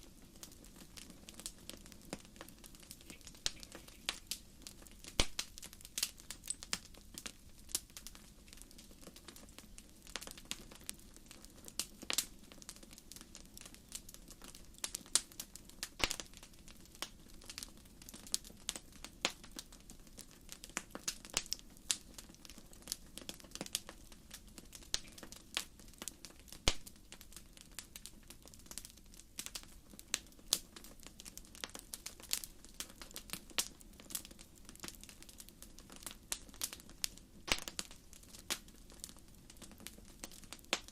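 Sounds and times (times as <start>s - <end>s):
firewood crackling and popping: 0.0s - 40.9s
low rumble of flames: 0.0s - 40.9s.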